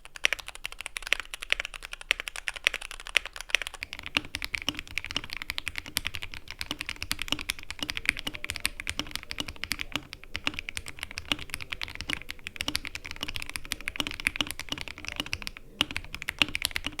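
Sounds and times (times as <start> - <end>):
fast typing on computer keyboard: 0.0 - 17.0.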